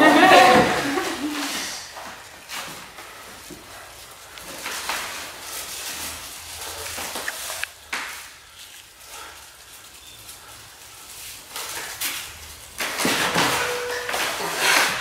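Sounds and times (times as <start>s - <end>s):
clothing rustling: 0.0s - 12.9s.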